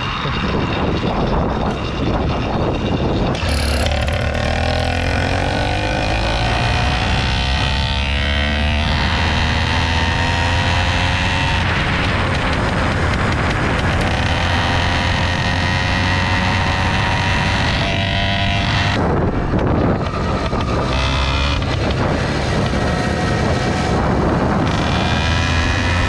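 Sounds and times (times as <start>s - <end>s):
two-stroke engine running: 0.0s - 26.0s
wind on microphone: 0.0s - 26.0s.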